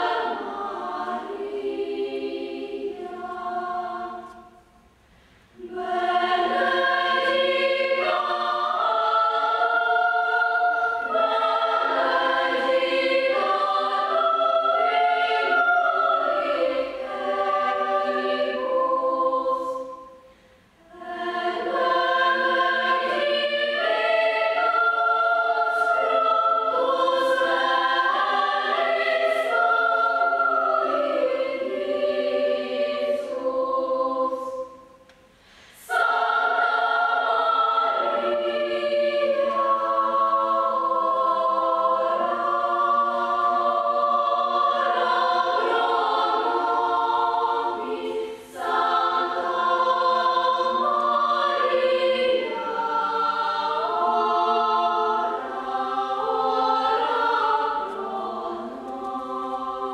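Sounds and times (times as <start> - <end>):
female choir singing a cappella: 0.0 - 59.9.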